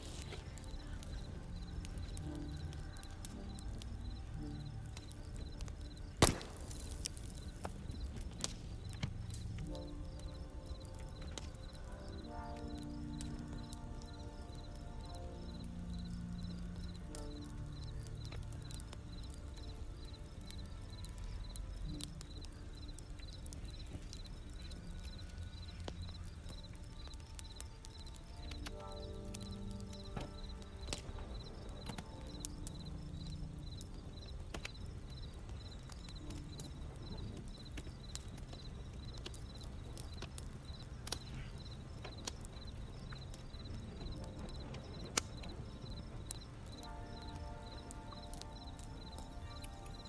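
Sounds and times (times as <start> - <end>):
campfire pops: 0.0 - 50.0
low rumble of flame: 0.0 - 50.0
wood fire crackling: 0.0 - 50.0.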